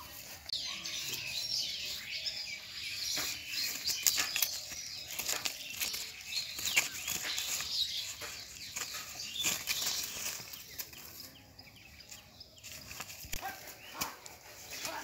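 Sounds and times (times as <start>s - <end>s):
rustling in dry leaves: 0.0s - 15.0s
small birds chirping: 0.0s - 15.0s.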